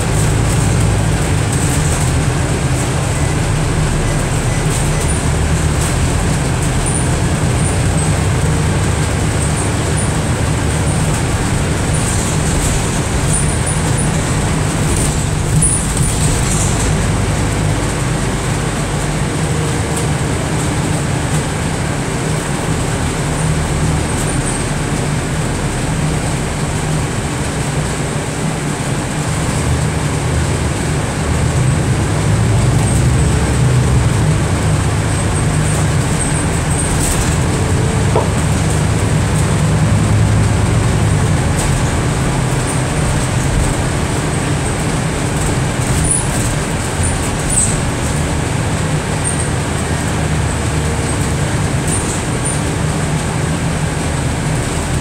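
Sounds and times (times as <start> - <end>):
bus engine rumble: 0.0 - 55.0
road noise: 0.0 - 55.0.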